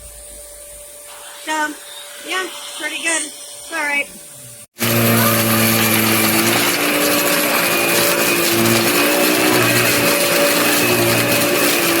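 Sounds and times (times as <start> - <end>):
upright vacuum running: 0.0 - 12.0.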